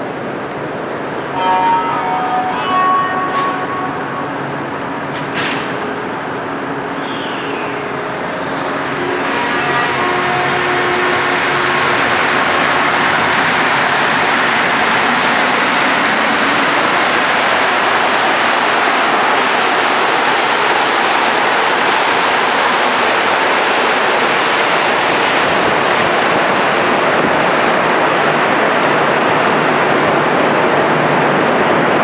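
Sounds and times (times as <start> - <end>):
metro train rolling past: 0.0 - 32.0.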